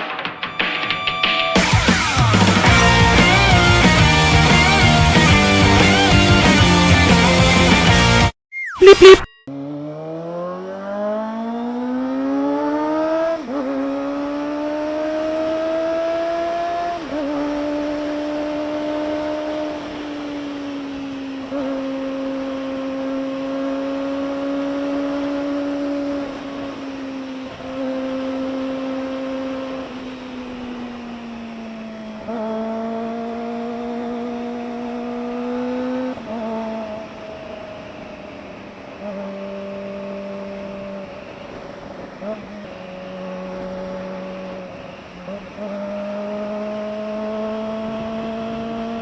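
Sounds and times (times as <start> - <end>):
motorcycle engine at high revs: 9.5 - 49.0.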